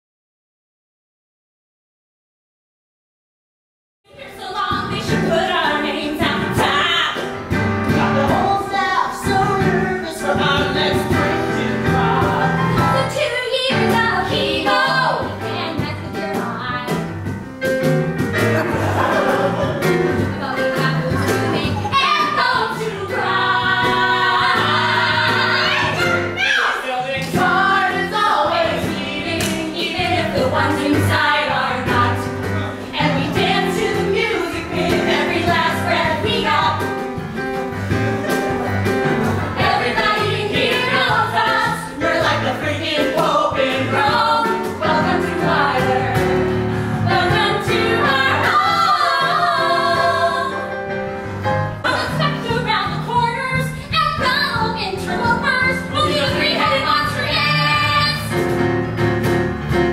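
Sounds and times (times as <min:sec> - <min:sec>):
keyboard accompaniment: 0:04.6 - 0:59.9.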